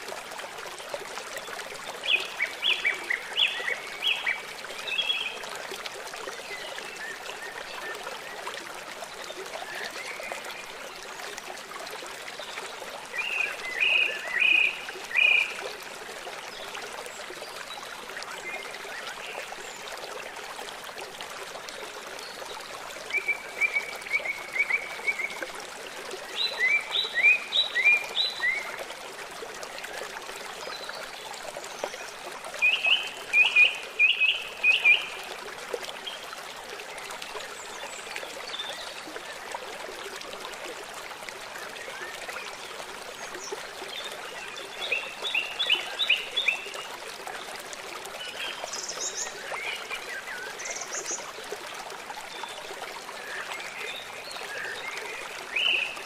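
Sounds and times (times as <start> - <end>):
stream rushing: 8.2 - 56.0.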